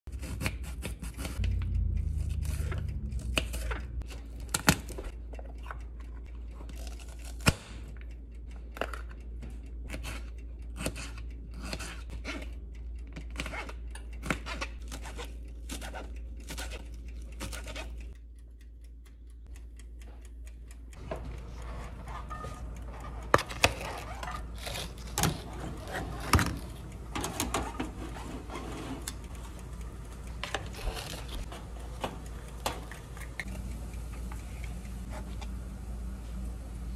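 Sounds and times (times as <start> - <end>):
steady low hum: 0.6 - 36.9.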